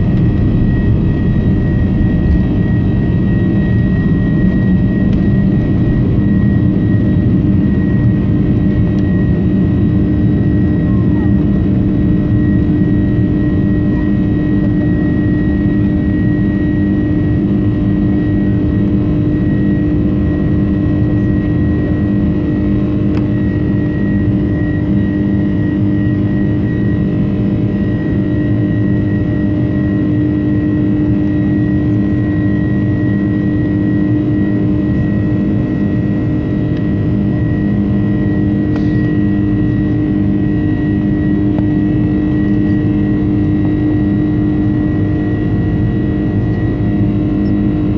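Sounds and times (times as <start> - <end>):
jet engine cabin rumble: 0.0 - 47.9.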